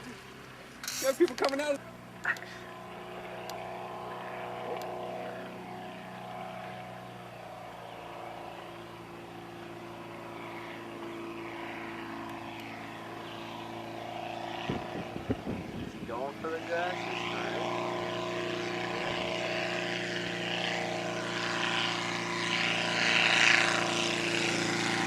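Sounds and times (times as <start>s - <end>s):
light aircraft engine droning: 0.0s - 25.0s.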